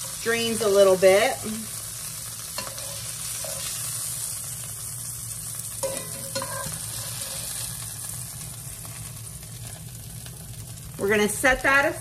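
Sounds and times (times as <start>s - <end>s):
chicken sizzling in butter: 0.0s - 12.0s.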